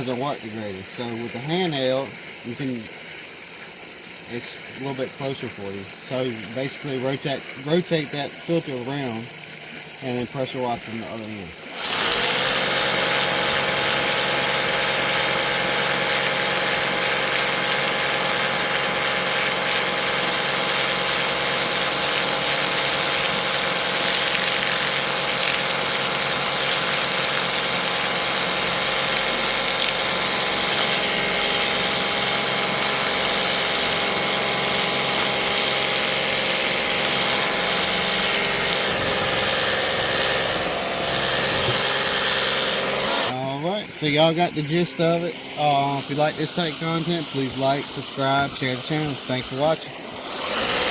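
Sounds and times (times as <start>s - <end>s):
water jet hissing: 0.0s - 50.9s
pressure washer running: 3.7s - 50.9s.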